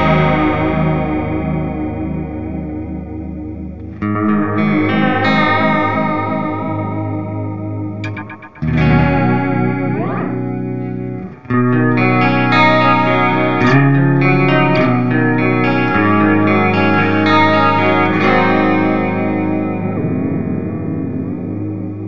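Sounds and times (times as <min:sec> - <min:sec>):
electric guitar chords with delay: 0:00.0 - 0:22.0.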